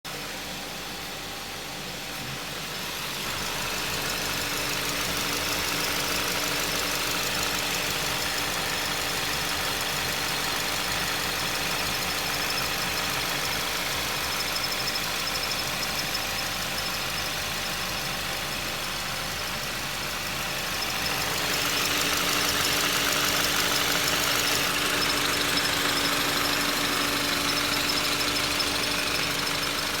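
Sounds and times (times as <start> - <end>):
car engine running with whistle: 0.0 - 30.0.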